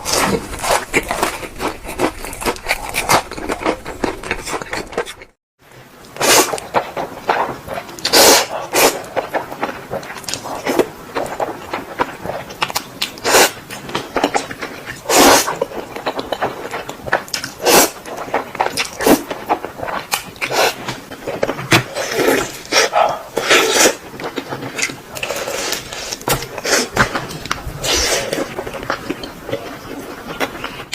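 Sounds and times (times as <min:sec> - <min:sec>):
slurping and chewing noodles: 0:00.0 - 0:05.4, 0:06.1 - 0:30.9.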